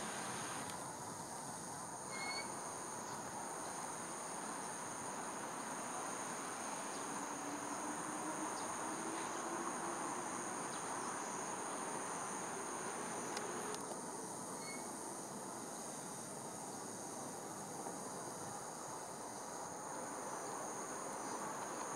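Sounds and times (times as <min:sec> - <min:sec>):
background hiss: 0:00.0 - 0:21.9
insects chirring: 0:00.0 - 0:21.9.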